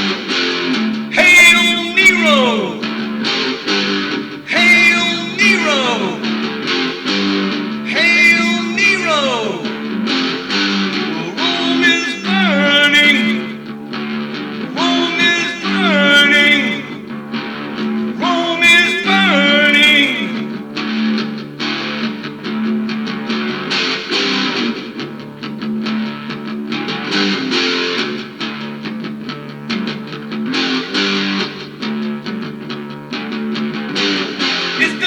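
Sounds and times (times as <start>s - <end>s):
rock music with guitars: 0.0s - 35.0s.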